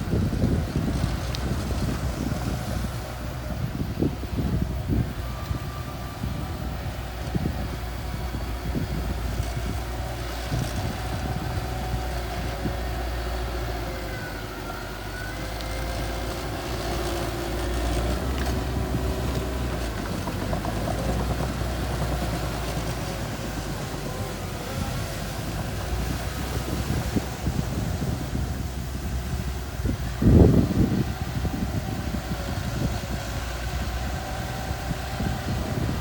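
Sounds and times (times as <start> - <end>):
bulldozer engine running: 0.0 - 36.0.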